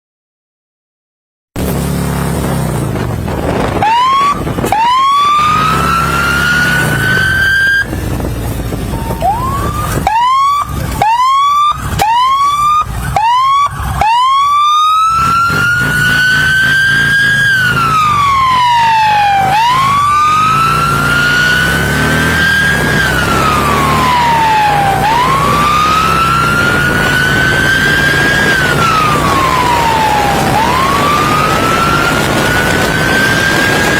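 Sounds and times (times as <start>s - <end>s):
engine running: 1.6s - 33.9s
police siren wailing and yelping: 3.7s - 8.0s, 8.9s - 33.9s.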